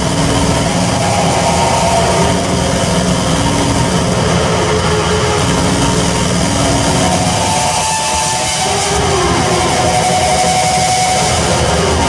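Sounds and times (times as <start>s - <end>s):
held tones sliding in pitch: 0.0s - 12.0s
loud electronic noise wash: 0.0s - 12.0s.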